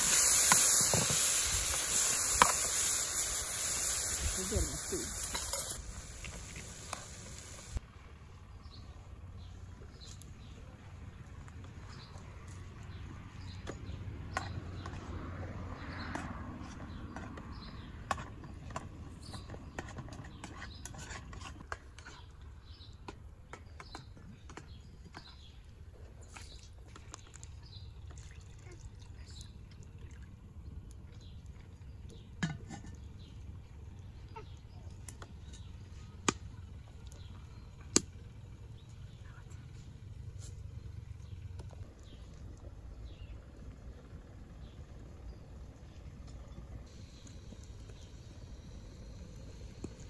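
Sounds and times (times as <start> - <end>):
low steady rumble: 0.0 - 20.2, 24.4 - 50.0
small birds chirping: 0.0 - 50.0.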